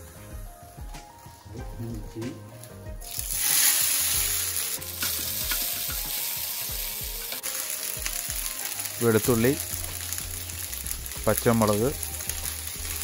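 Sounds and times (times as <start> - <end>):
ginger sizzling in hot oil: 0.0 - 13.0.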